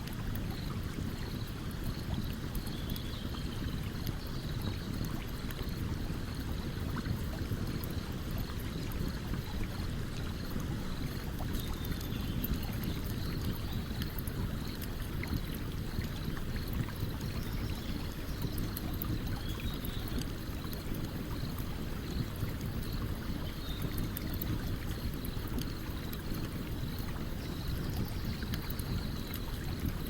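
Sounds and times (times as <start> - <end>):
stream running: 0.0 - 30.0.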